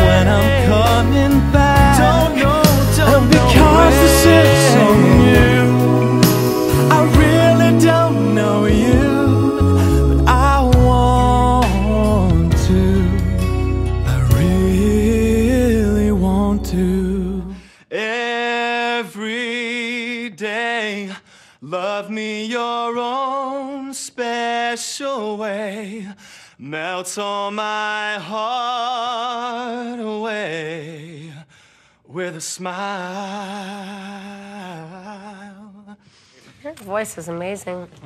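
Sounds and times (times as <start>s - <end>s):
man singing unaccompanied: 0.0s - 13.4s, 14.1s - 31.4s.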